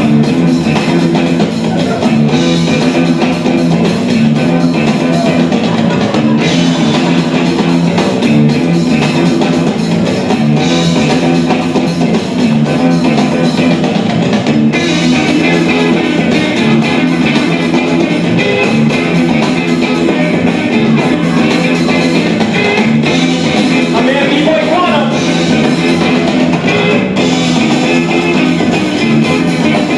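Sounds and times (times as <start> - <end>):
guitar rock music with drums: 0.0 - 29.9.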